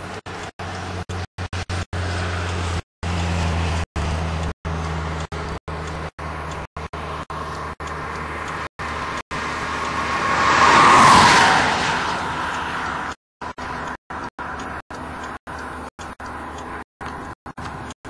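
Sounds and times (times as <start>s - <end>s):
low engine hum: 0.0s - 18.0s
vehicle passing by: 0.0s - 18.0s.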